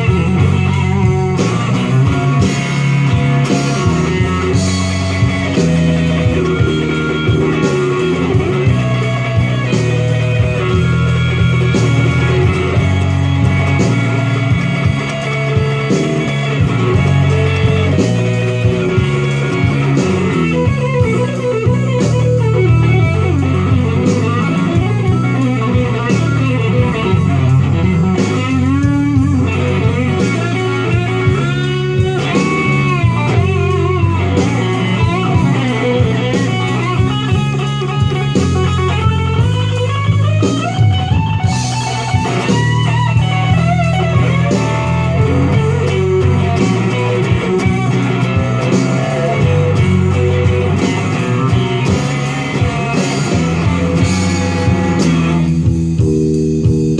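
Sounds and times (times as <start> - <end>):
bass line: 0.0 - 56.9
electric guitar blues lead: 0.0 - 56.9.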